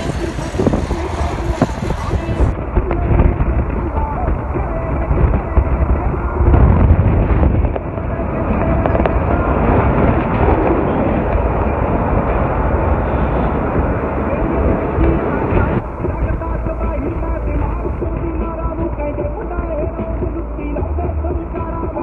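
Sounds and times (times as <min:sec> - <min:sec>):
indistinct voices: 0:00.0 - 0:22.0
road and traffic noise: 0:00.0 - 0:22.0
wind buffeting microphone: 0:00.0 - 0:22.0.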